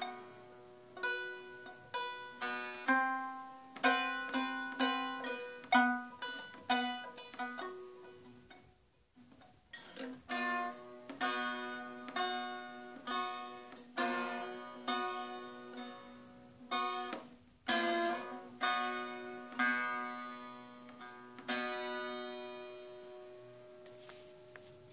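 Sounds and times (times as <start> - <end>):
long-necked lute picked slowly: 0.0 - 24.9.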